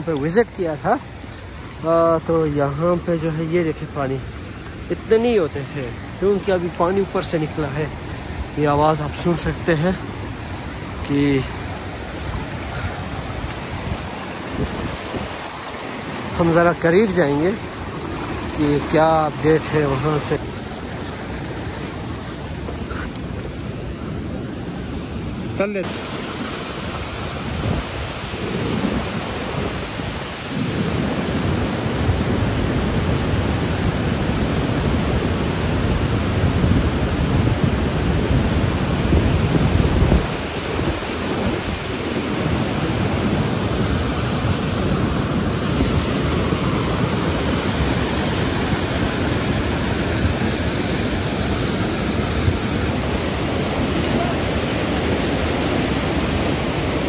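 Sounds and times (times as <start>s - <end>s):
floodwater rushing down channel: 0.0s - 57.0s.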